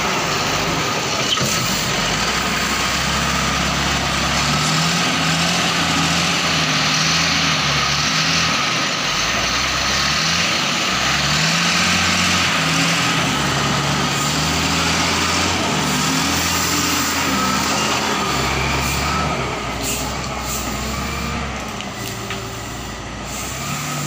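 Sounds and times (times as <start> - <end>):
wheel loader diesel engine revving: 0.0 - 24.0.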